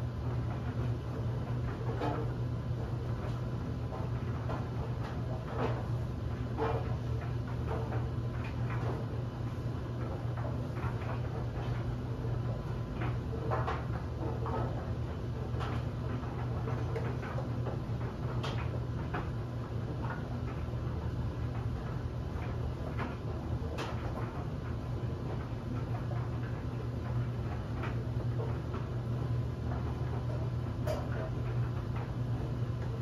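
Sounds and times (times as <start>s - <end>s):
clothes dryer humming: 0.0s - 33.0s
light clicks in dryer drum: 0.0s - 33.0s.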